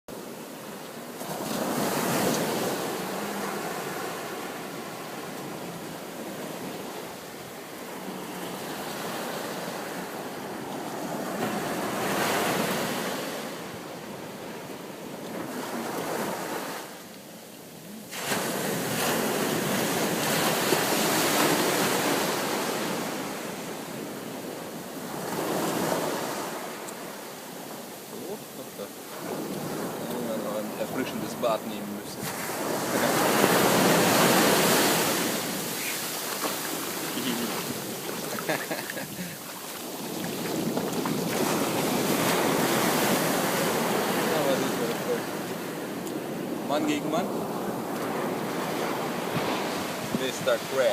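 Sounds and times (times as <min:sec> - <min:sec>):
ocean surf washing onto shore: 0:00.1 - 0:50.9.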